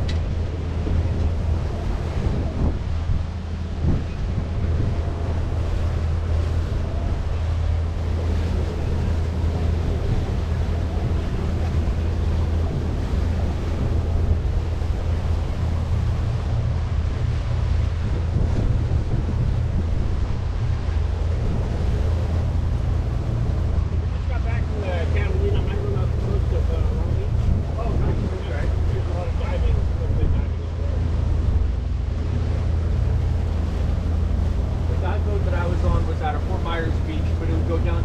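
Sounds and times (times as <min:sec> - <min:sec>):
boat motor humming: 0:00.0 - 0:38.0
wind buffeting microphone: 0:00.0 - 0:38.0.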